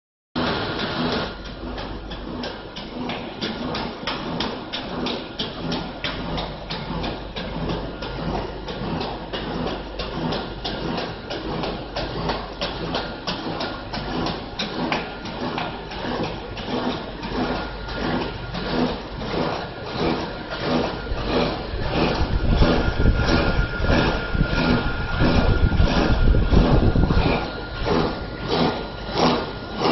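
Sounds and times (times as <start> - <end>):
machine low hum: 0.4 - 29.9
rapid machine clicking: 0.4 - 29.9.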